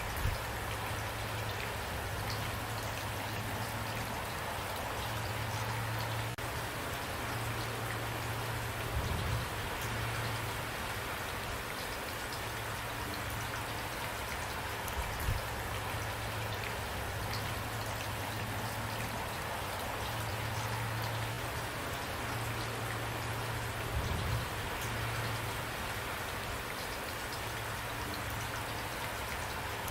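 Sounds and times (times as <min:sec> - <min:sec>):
steady rain hiss: 0:00.0 - 0:29.9.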